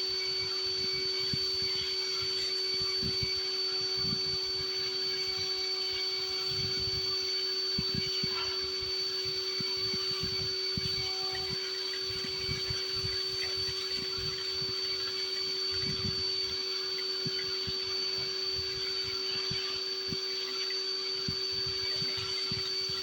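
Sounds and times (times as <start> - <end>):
vacuum cleaner blower whining: 0.0 - 23.0.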